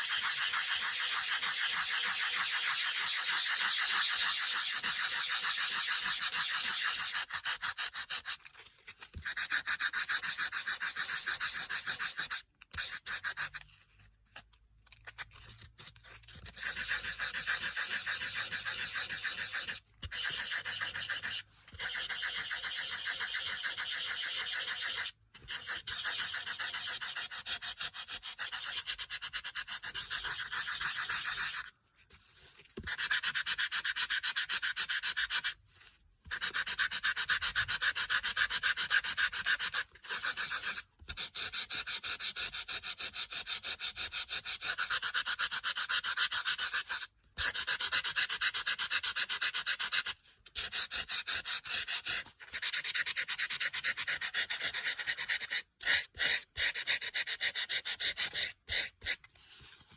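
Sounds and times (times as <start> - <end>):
sanding block scratching cardstock: 0.0 - 13.7, 15.1 - 31.7, 32.4 - 59.9.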